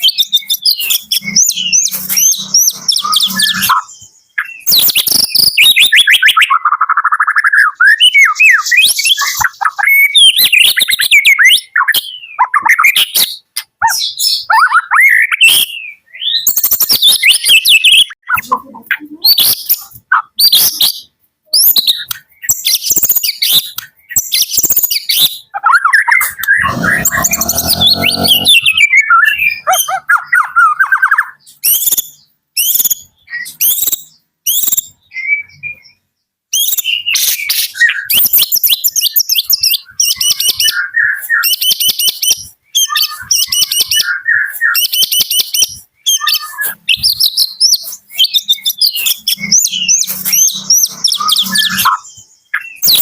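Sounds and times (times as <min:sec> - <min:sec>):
bird singing whistles and trills: 0:00.0 - 0:18.2, 0:28.4 - 0:53.0.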